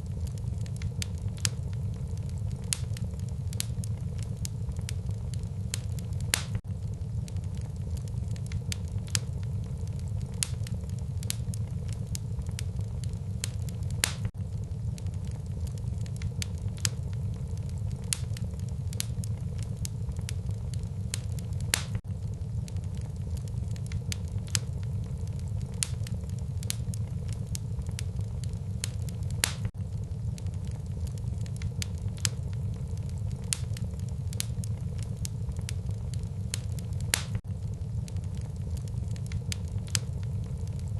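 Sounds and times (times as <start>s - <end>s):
fire rumbling: 0.0s - 40.9s
logs crackling and popping: 0.0s - 40.9s.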